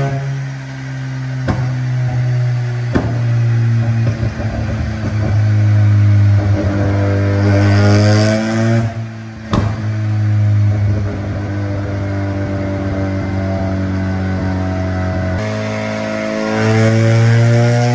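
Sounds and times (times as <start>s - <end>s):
sharp exhaust crack: 0.0s - 14.6s
rotary engine idling and revving: 0.0s - 17.9s.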